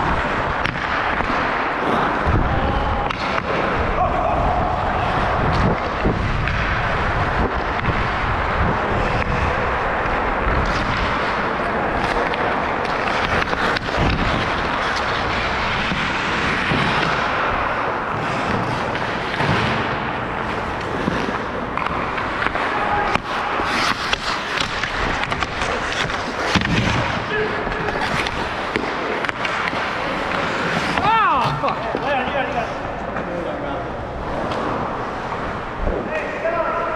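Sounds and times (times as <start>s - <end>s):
hockey sticks and puck clacking: 0.0s - 2.4s, 3.0s - 33.6s, 34.2s - 36.9s
skates scraping ice: 0.0s - 36.9s.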